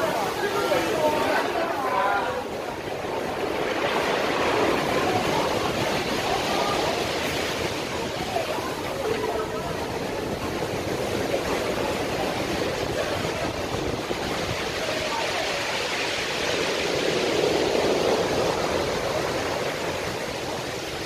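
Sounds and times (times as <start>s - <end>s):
water rushing in a cave: 0.0s - 21.0s.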